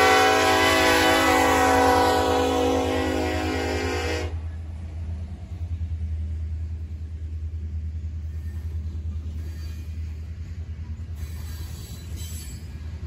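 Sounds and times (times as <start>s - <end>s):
diesel locomotive rumble: 0.0s - 13.0s
train cars rolling on rails: 0.0s - 13.0s.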